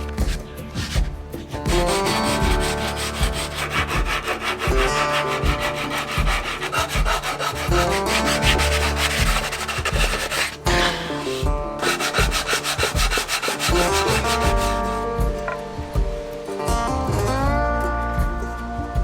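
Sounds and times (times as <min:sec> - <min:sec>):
sandpaper rubbing on wood: 0:00.0 - 0:15.7
background music: 0:00.0 - 0:19.0.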